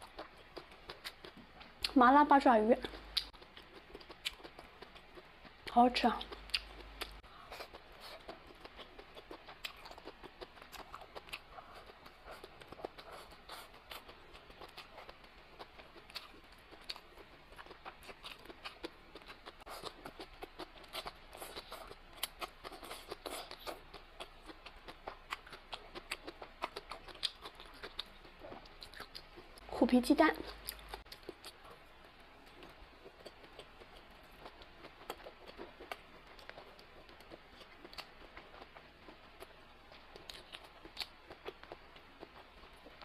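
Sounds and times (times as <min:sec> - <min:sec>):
chewing and mouth smacks: 0:00.0 - 0:02.0, 0:02.8 - 0:29.6, 0:30.4 - 0:31.8, 0:32.4 - 0:43.0.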